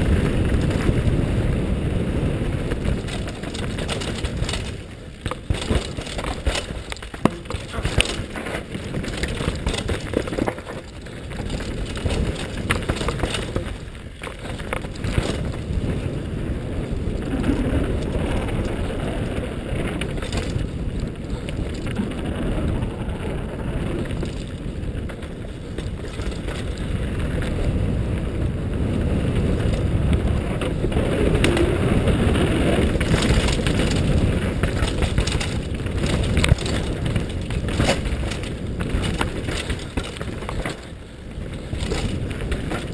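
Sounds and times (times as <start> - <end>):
bike knocking and rattling: 0.0 - 42.9
bike tyres on dirt: 0.0 - 42.9.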